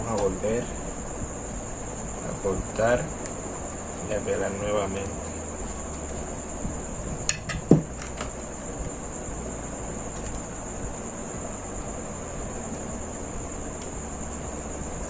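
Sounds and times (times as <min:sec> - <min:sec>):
steady high-pitched whine: 0:00.0 - 0:15.0.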